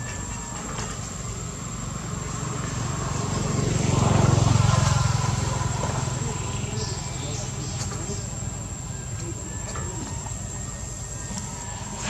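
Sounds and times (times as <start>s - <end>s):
vehicle engine running: 1.0s - 12.0s.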